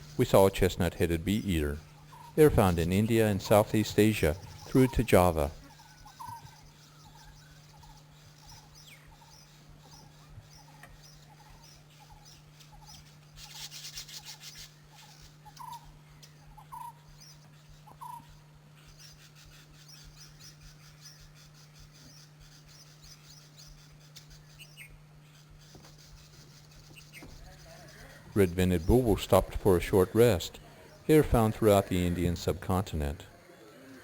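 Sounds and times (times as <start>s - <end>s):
low steady hum: 0.0s - 34.0s
small birds chirping: 0.0s - 34.0s.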